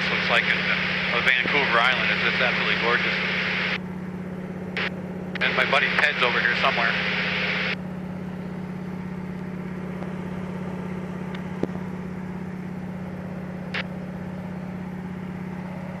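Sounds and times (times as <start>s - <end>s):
plane engine and propeller droning: 0.0s - 16.0s.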